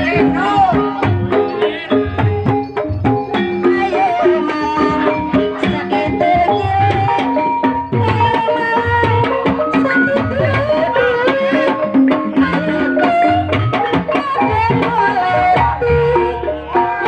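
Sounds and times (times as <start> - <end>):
gamelan melody: 0.0 - 17.0
hand drums: 0.0 - 17.0.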